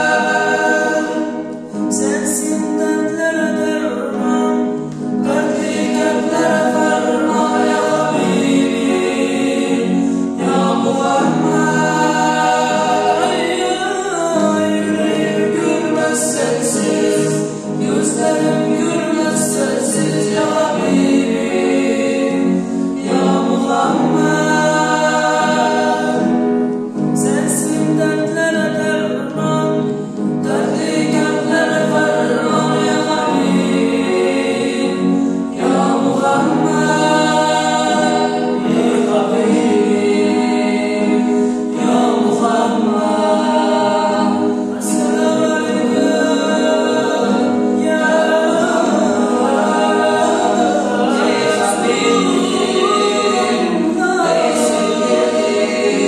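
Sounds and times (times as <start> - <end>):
men singing in harmony: 0.0 - 56.0.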